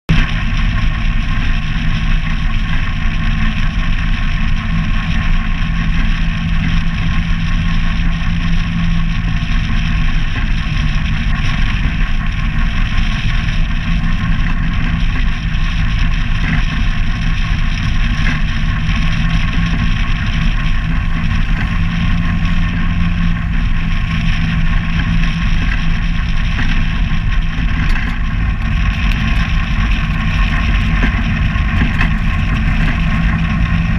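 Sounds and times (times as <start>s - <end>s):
atv engine running: 0.1s - 33.9s.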